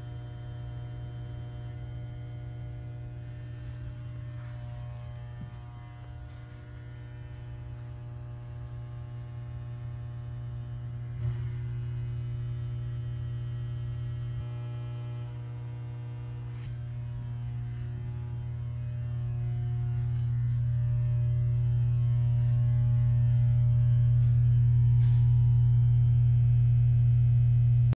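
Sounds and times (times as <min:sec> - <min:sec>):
low hum with overtones: 0:00.0 - 0:27.9.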